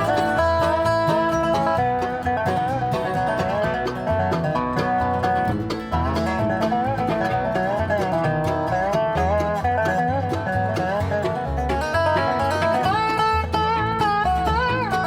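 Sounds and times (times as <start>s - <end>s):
upbeat bluegrass banjo music: 0.0s - 15.0s.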